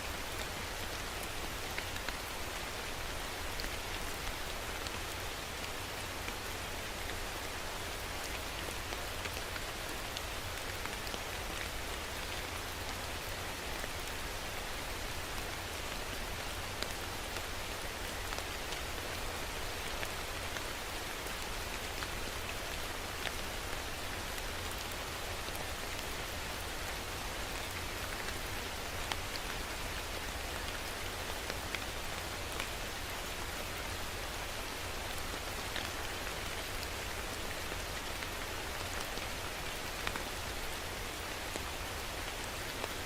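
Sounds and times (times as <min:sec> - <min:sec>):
steady rain hiss: 0:00.0 - 0:43.0.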